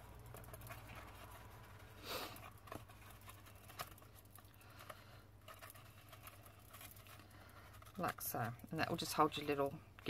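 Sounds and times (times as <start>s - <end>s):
paper ribbon rustling: 0.0s - 9.5s.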